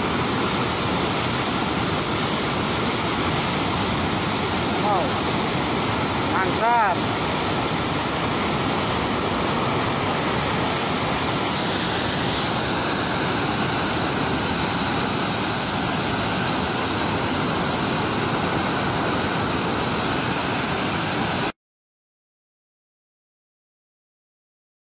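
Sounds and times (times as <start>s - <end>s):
river water rushing: 0.0s - 21.5s.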